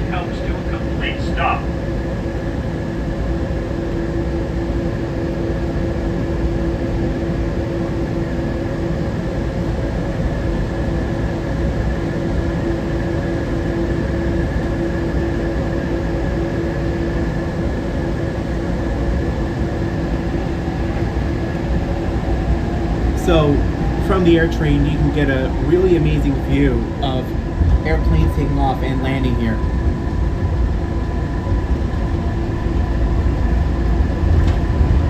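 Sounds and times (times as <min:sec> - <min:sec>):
constant whine: 0:00.0 - 0:35.0
train car hum and rumble: 0:00.0 - 0:35.0.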